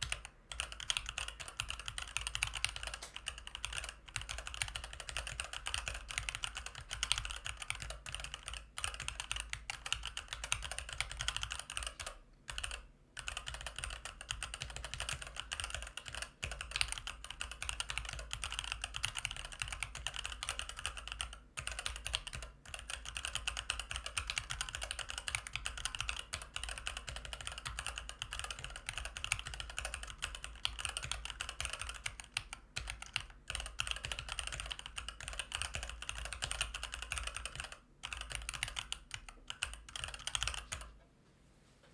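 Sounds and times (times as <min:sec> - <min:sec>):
fast typing on mechanical keyboard: 0:00.0 - 0:41.0.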